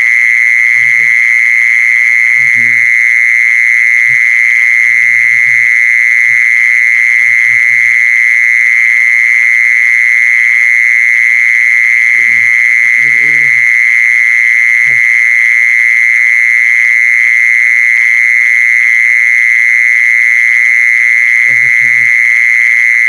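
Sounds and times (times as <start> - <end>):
insect trilling: 0.0 - 18.8, 20.5 - 23.0.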